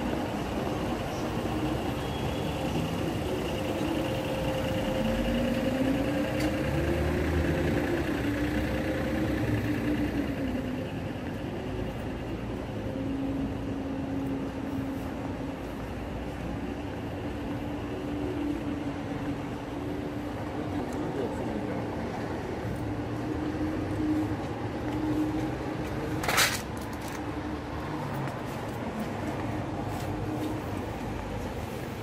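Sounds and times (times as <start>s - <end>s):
engine rising in pitch: 0.0s - 26.2s
traffic hum: 0.0s - 32.0s.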